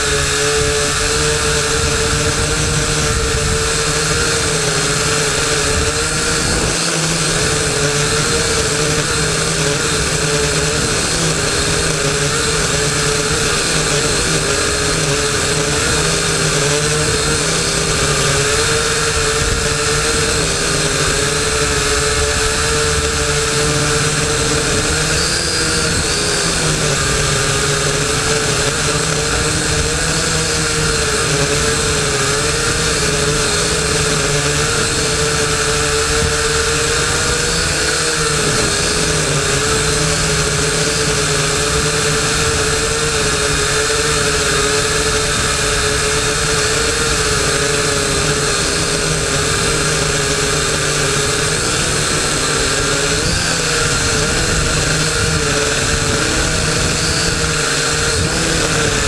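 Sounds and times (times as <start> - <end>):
drone propellers whining: 0.0 - 59.0
wind noise on microphone: 0.0 - 59.0.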